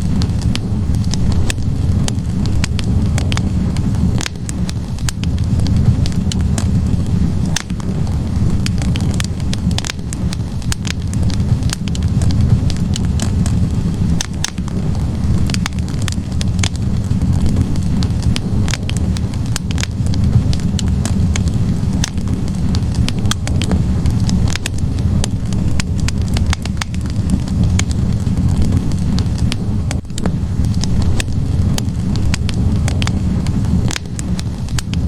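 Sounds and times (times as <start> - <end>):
fire flames rumbling: 0.0 - 35.0
logs crackling and popping: 0.0 - 35.0.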